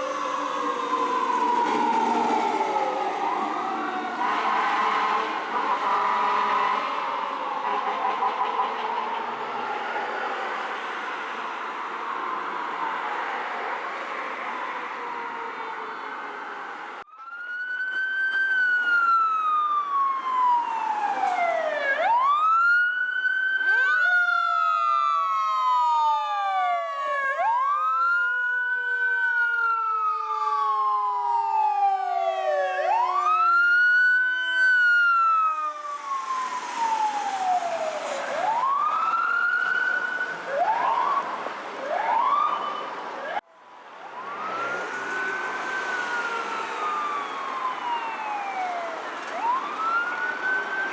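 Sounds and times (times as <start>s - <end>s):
passing siren gliding down: 0.0s - 50.9s
sirens wailing: 0.0s - 50.9s.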